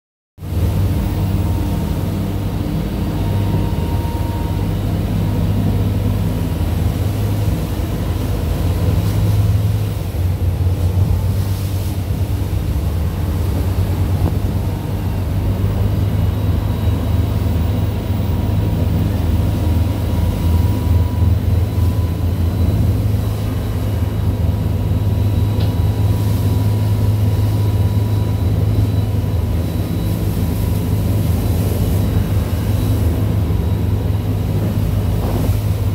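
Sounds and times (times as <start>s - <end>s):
boat engines droning: 0.4s - 35.9s
churning wake rushing: 0.4s - 35.9s.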